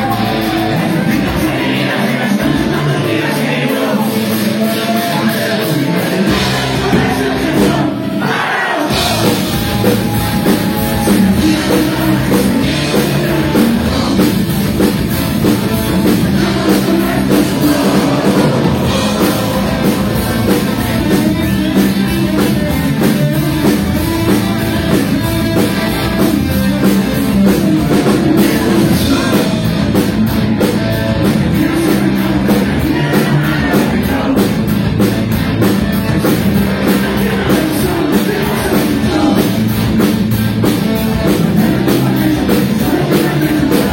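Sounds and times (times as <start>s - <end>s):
person singing: 0.0s - 34.8s, 36.3s - 43.9s
distorted instruments: 0.0s - 43.9s
drums: 0.0s - 43.9s
loud rock music: 0.0s - 43.9s.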